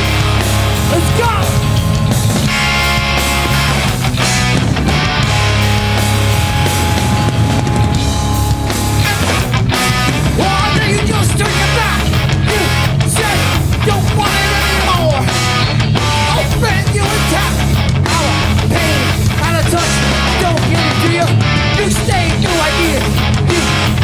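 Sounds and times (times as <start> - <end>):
punk band playing live: 0.0 - 24.0.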